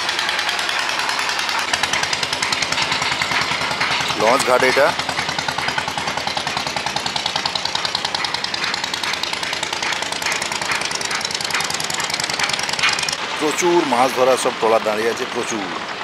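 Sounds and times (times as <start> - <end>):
diesel engine knocking: 0.0 - 16.0.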